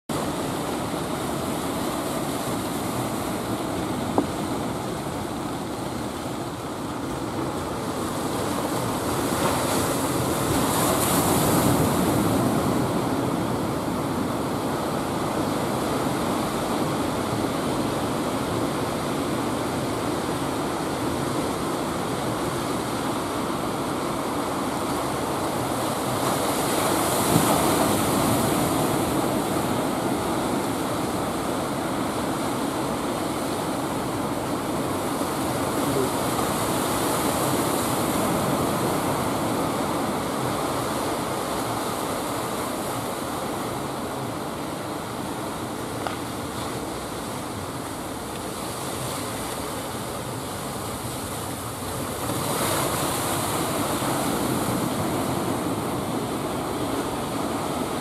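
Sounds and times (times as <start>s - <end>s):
ocean waves breaking: 0.1s - 58.0s.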